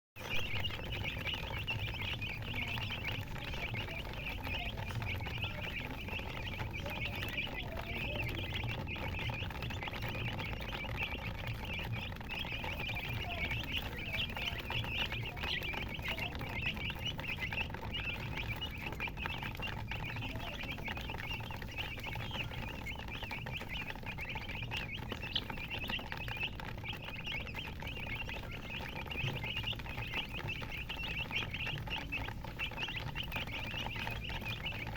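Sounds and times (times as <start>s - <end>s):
baby chicks peeping: 0.2s - 34.9s.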